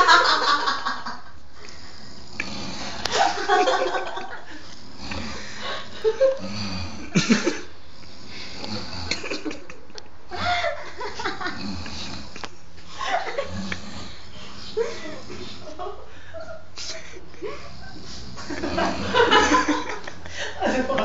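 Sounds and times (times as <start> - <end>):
men making snoring noises: 1.8 - 16.1, 16.9 - 20.3.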